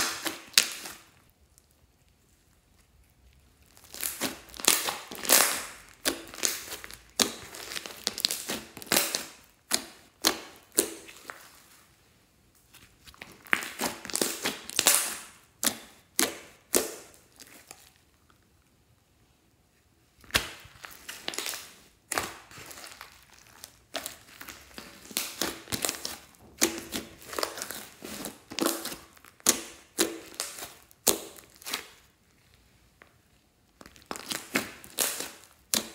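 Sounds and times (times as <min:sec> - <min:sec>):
slime crackling and popping: 0:00.0 - 0:11.6, 0:13.0 - 0:18.2, 0:20.2 - 0:32.5, 0:33.6 - 0:35.9.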